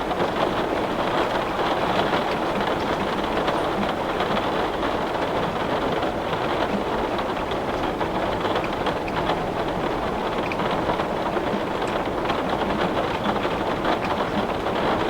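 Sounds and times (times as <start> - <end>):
heavy rain on window glass: 0.0 - 15.0.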